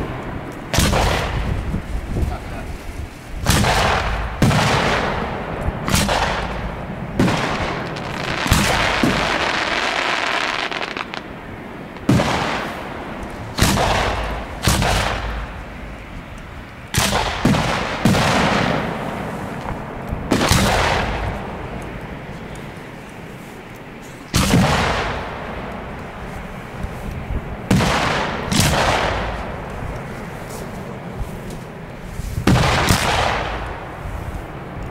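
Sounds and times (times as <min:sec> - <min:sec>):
fireworks bursting with hiss: 0:00.0 - 0:34.9.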